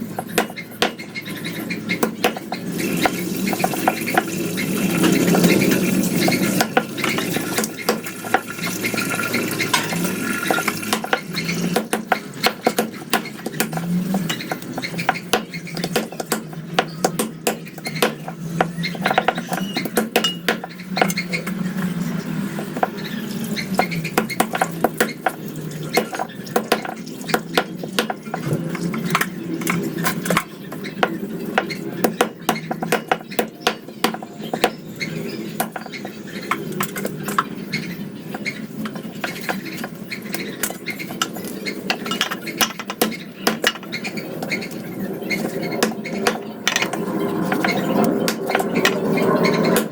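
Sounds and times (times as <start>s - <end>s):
metal utensils scraping a pot: 0.0s - 49.9s.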